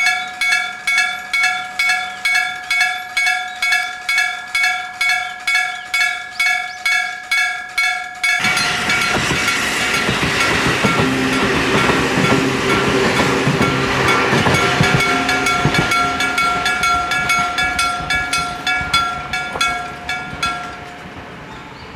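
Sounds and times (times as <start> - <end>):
level crossing bell ringing: 0.0 - 9.3, 10.4 - 21.1
train wheels rumbling on rails: 0.0 - 21.9.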